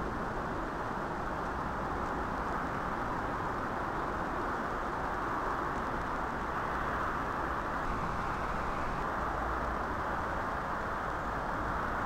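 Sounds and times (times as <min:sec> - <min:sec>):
outdoor ambient rush: 0:00.0 - 0:12.0.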